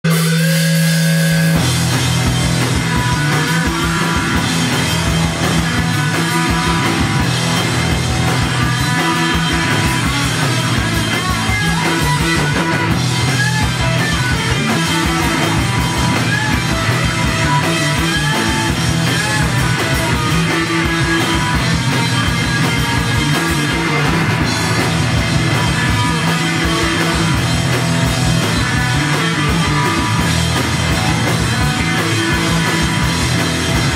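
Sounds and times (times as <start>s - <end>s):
bass guitar: 0.0s - 33.9s
drum kit: 0.0s - 33.9s
electric guitar: 0.0s - 33.9s
rock band playing live: 0.0s - 33.9s.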